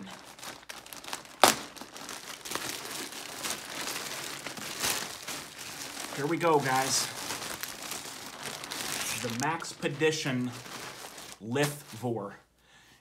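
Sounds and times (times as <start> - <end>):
plastic mailer crinkling: 0.0 - 12.0
plastic tearing: 0.0 - 12.0.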